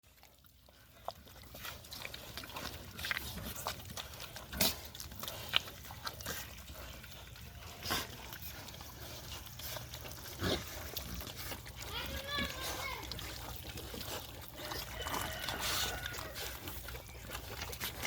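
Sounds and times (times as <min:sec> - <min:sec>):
pigs grunting: 0:00.1 - 0:18.0.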